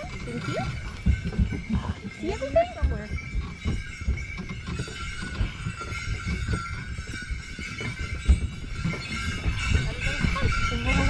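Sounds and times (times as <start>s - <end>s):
low rumble of moving sleigh: 0.0s - 11.0s
sleigh bells jingling: 0.0s - 11.0s
sleigh thumps: 0.0s - 11.0s.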